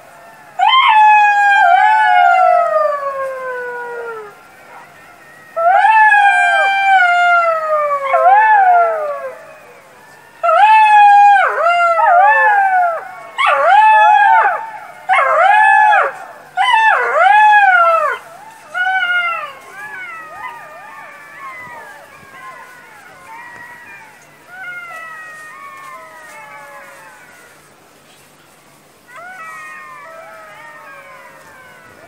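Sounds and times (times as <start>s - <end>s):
jackal howling: 0.6s - 27.6s, 29.1s - 32.0s.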